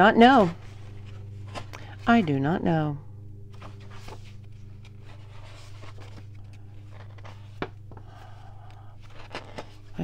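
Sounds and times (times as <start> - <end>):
steady low hum: 0.0 - 10.0
book pages turning: 0.2 - 2.4, 3.5 - 10.0.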